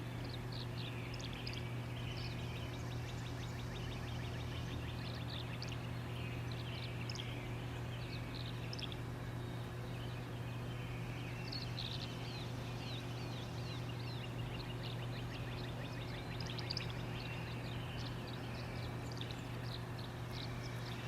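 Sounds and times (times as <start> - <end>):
bird twittering chirps: 0.0 - 21.0
steady low hum: 0.0 - 21.0.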